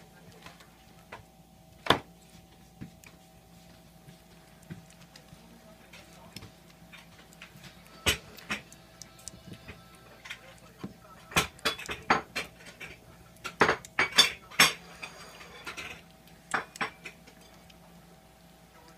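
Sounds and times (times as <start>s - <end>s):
kitten eating: 0.0s - 18.9s.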